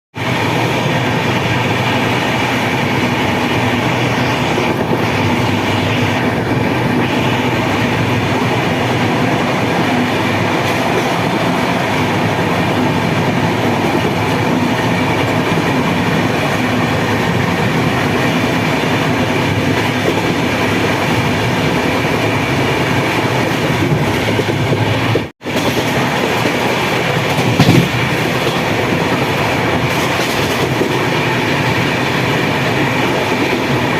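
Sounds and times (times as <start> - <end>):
train running on rails: 0.1 - 33.9.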